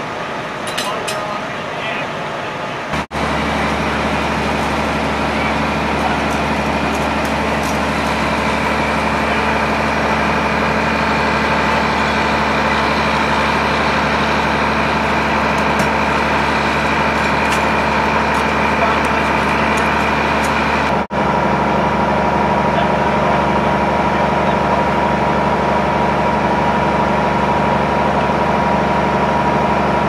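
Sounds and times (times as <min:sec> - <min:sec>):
large engine idling: 0:00.0 - 0:30.0.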